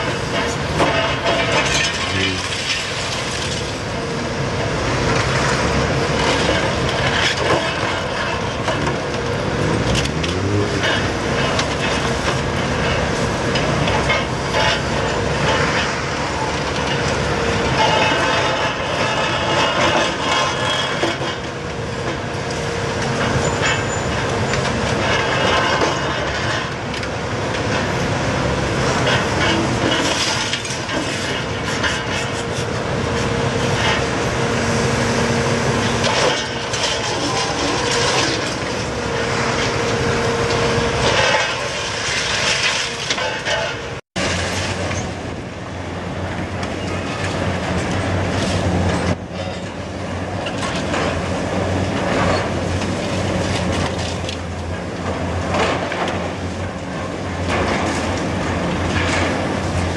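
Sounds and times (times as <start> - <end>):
excavator engine and hydraulics hum: 0.0 - 59.9.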